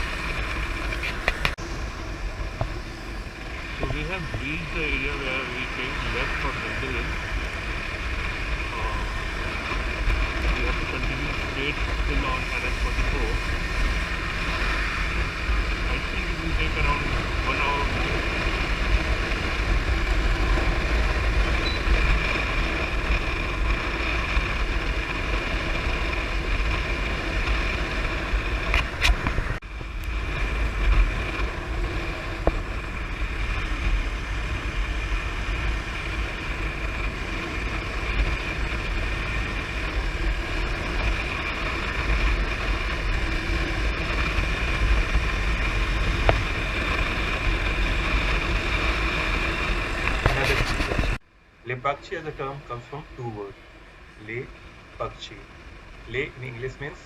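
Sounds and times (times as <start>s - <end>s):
motorcycle engine cruising: 0.0s - 51.2s
wind rumbling on microphone: 0.0s - 57.0s.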